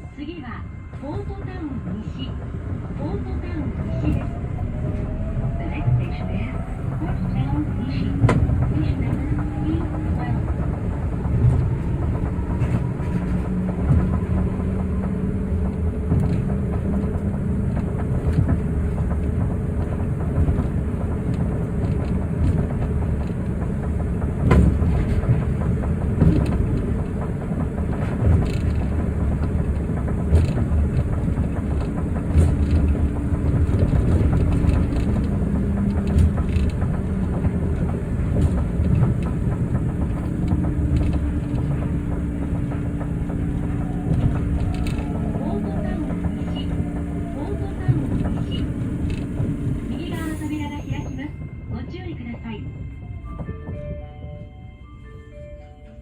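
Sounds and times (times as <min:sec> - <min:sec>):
train rumble inside car: 0:00.0 - 0:56.0.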